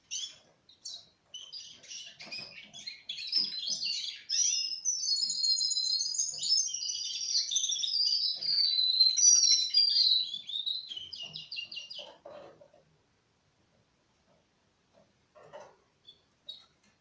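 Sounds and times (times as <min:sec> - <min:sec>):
canary singing trills: 0:00.0 - 0:12.8, 0:15.4 - 0:16.9.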